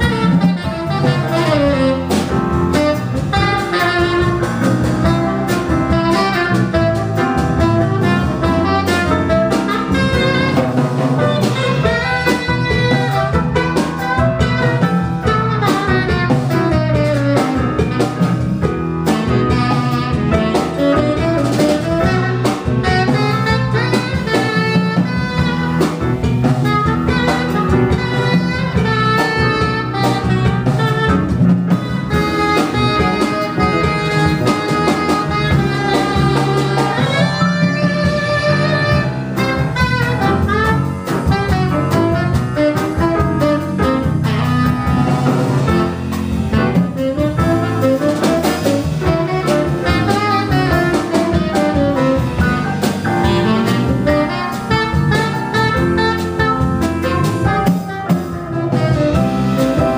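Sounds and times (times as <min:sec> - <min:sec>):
drum kit: 0:00.0 - 0:59.9
electric bass: 0:00.0 - 0:59.9
piano: 0:00.0 - 0:59.9
tenor saxophone melody: 0:00.0 - 0:59.9.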